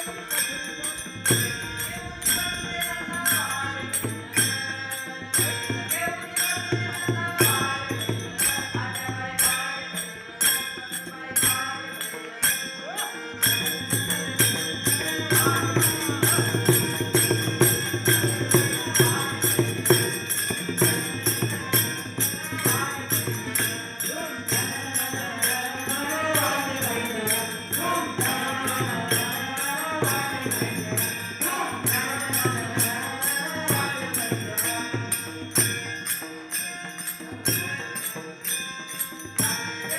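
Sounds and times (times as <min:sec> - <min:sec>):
jingling hand percussion: 0:00.0 - 0:39.9.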